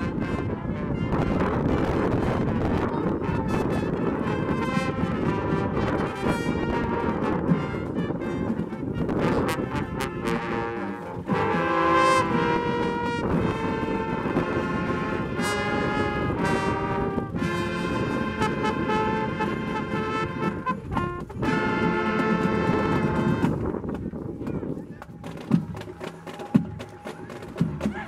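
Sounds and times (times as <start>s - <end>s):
brass band playing held chords: 0.0s - 23.8s.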